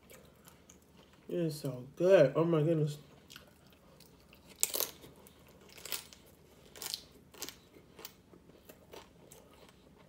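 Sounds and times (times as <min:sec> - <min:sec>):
crunching and chewing taco: 0:00.0 - 0:01.7, 0:03.0 - 0:10.0.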